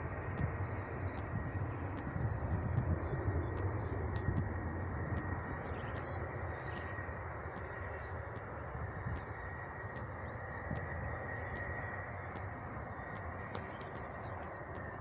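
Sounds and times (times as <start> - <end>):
distant jet aircraft rumble: 0.0 - 15.0.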